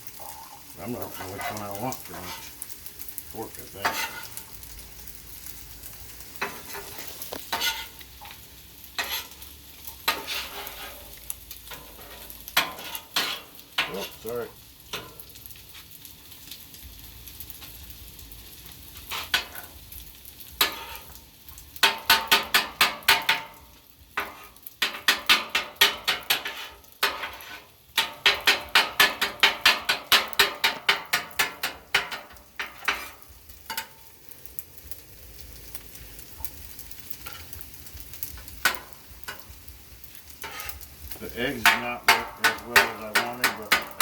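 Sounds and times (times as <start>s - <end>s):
food sizzling: 0.0s - 44.0s
spatula scraping on steel griddle: 0.8s - 5.6s, 6.2s - 14.3s, 14.9s - 15.9s, 18.9s - 19.8s, 20.4s - 21.2s, 21.8s - 34.4s, 36.4s - 44.0s.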